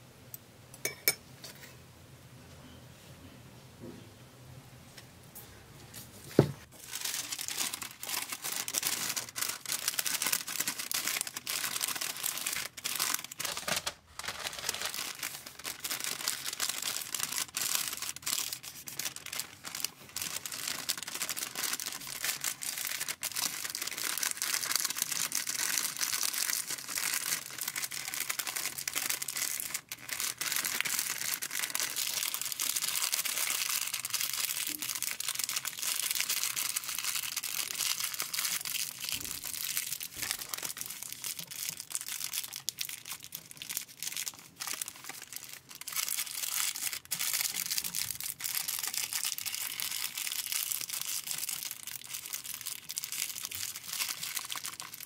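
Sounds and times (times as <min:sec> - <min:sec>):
paper wrap crinkling: 0:06.6 - 0:55.0.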